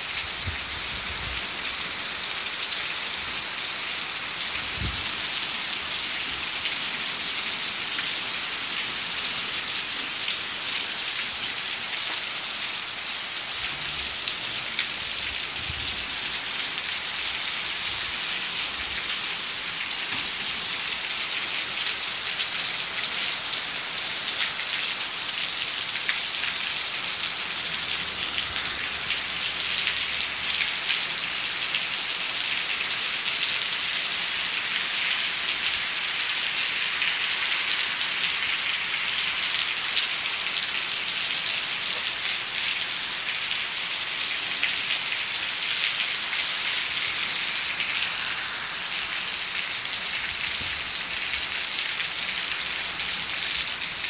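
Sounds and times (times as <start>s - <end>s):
hard rain on pavement: 0.0s - 54.0s.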